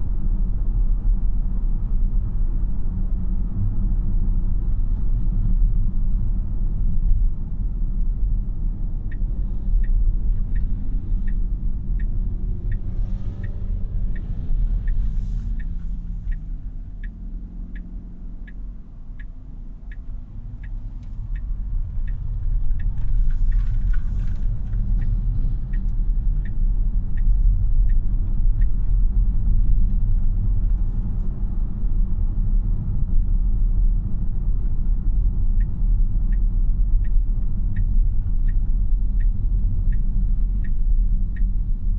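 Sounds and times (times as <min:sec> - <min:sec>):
turn signal ticking: 0:00.0 - 0:41.9.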